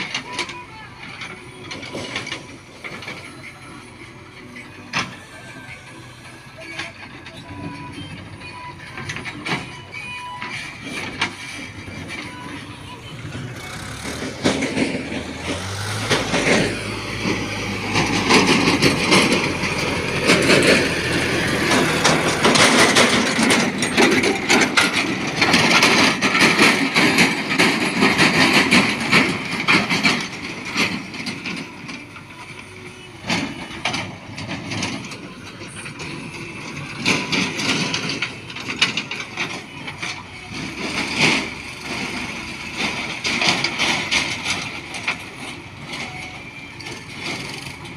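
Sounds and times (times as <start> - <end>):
backhoe loader engine running: 0.0 - 47.9
tractor driving by: 0.0 - 47.9
rattling and clattering: 6.7 - 47.9.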